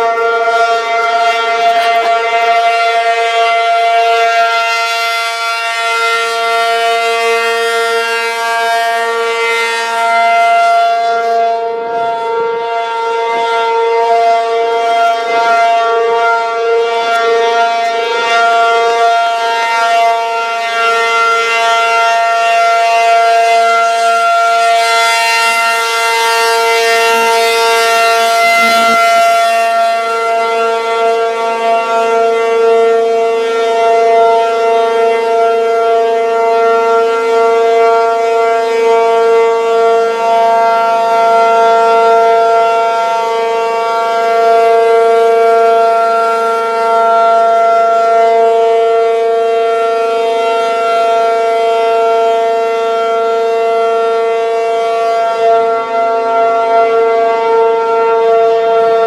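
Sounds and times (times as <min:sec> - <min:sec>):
outdoor warning siren steady tone: 0:00.0 - 0:59.0.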